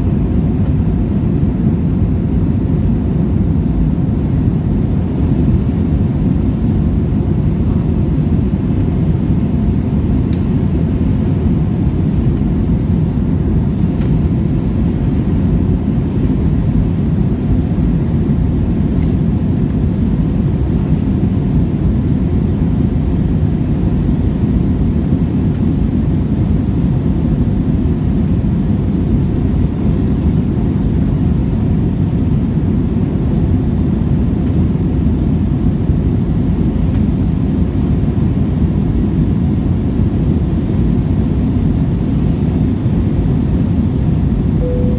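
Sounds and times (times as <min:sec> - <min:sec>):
airplane engines rumbling: 0:00.0 - 0:44.9.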